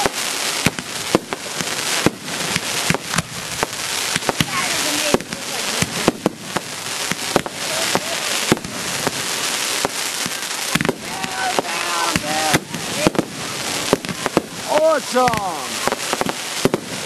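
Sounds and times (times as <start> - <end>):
fireworks bangs: 0.0 - 17.0
fireworks hiss: 0.0 - 17.0.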